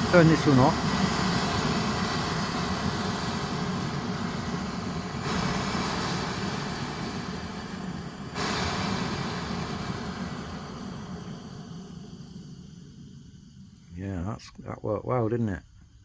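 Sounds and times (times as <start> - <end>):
petrol burner flame rushing: 0.0 - 14.4.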